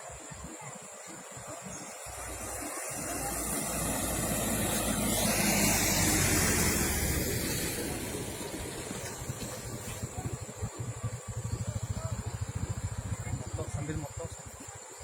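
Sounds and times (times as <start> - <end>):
motor vehicle passing: 1.8 - 14.4.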